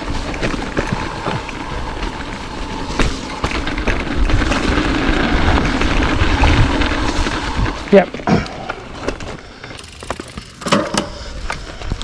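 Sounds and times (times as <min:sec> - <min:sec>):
wind rumbling on microphone: 0:00.0 - 0:09.6
bike clicks and rattles: 0:00.0 - 0:12.0
bike tyres rolling on dirt: 0:00.0 - 0:12.0.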